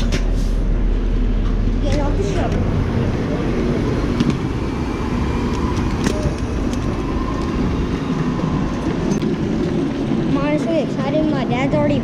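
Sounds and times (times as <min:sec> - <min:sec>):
suitcase wheels rumbling over pavement: 0:01.7 - 0:12.0.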